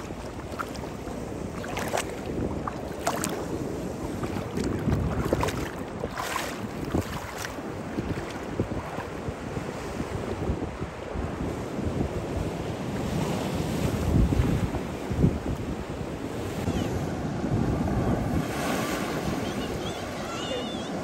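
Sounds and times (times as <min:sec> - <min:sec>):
wind buffeting the microphone: 0:00.0 - 0:20.4.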